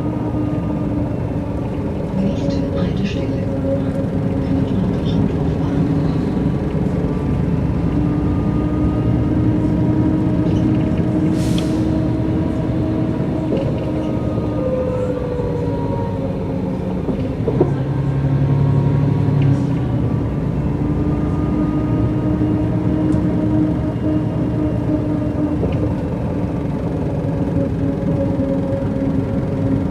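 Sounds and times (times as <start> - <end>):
bus engine and drivetrain drone: 0.0 - 29.9.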